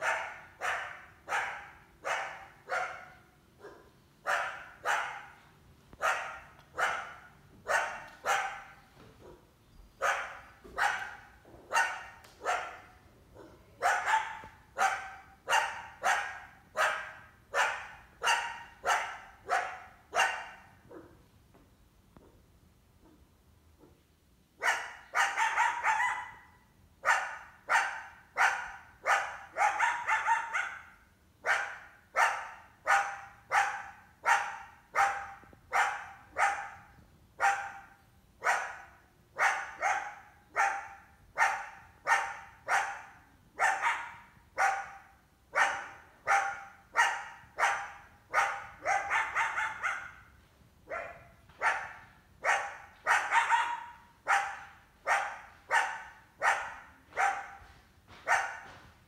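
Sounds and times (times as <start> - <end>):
coyote barking: 0.0 - 21.2, 24.6 - 58.8.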